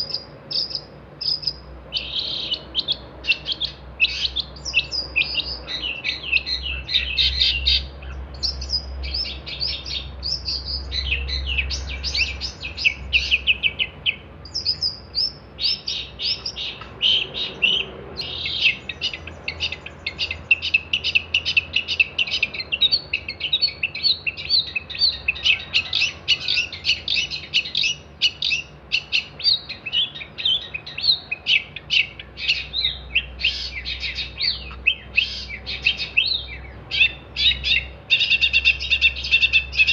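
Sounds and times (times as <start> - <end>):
bird chattering and trilling song: 0.0 - 39.9.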